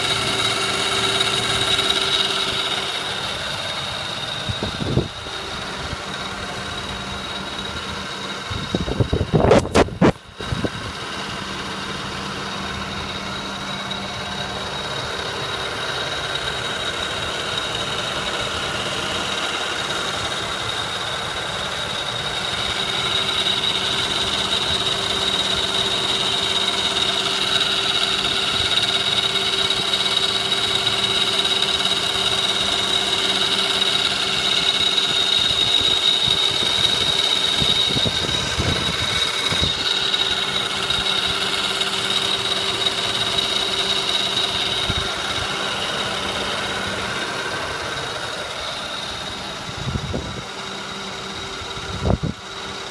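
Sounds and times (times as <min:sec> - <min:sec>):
car engine idling: 0:00.0 - 0:52.9
high-pitched engine whine: 0:00.0 - 0:52.9.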